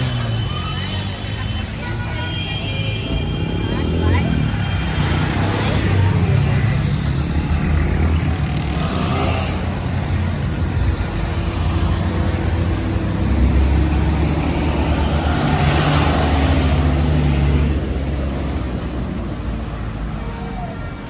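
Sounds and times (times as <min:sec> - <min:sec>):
passing traffic whoosh: 0:00.0 - 0:20.8
vehicle engine rumble: 0:00.0 - 0:21.0.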